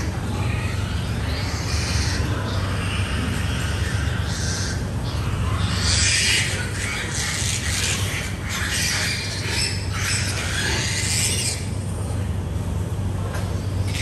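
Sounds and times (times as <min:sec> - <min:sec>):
piglets squealing: 0:00.0 - 0:12.0, 0:13.8 - 0:14.0
steady low hum: 0:00.0 - 0:14.0.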